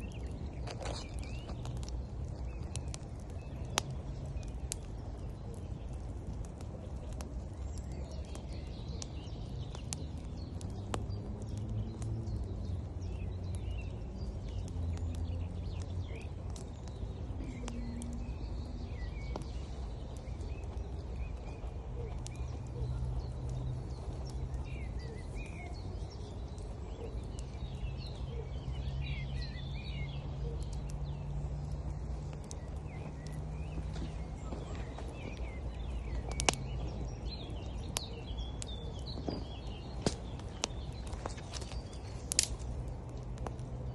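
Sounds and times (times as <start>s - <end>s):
birds singing: 0.0s - 43.9s
wood fire crackling and popping: 0.0s - 43.9s.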